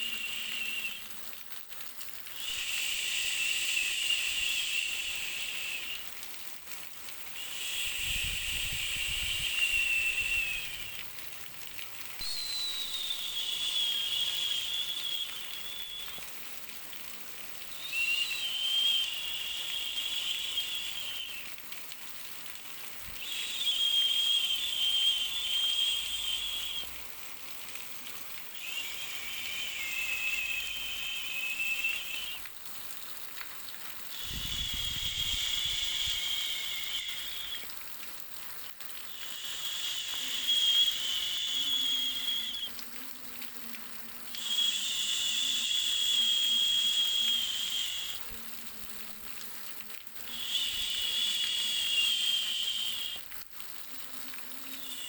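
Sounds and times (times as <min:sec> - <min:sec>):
white noise hiss with whistling tone: 0:00.0 - 0:55.0.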